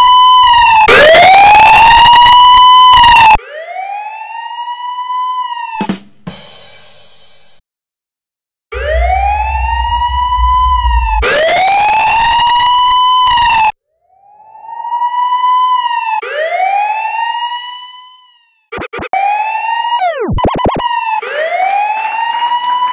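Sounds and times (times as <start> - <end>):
distorted police siren wail: 0.0 - 5.8, 8.7 - 22.9.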